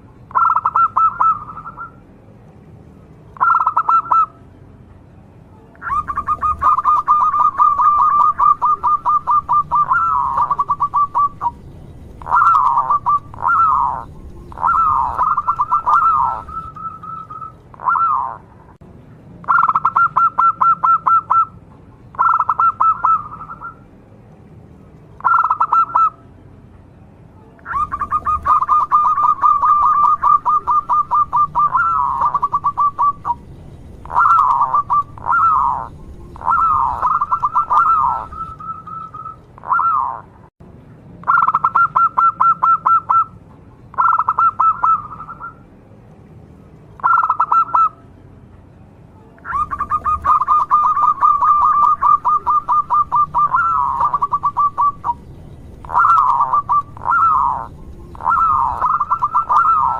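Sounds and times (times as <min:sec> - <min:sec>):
dove cooing song: 0:00.3 - 0:02.0, 0:03.4 - 0:04.4, 0:05.7 - 0:18.8, 0:19.4 - 0:23.8, 0:25.2 - 0:26.2, 0:27.6 - 0:40.3, 0:41.2 - 0:43.3, 0:43.9 - 0:45.6, 0:47.0 - 0:48.0, 0:49.4 - 0:59.9.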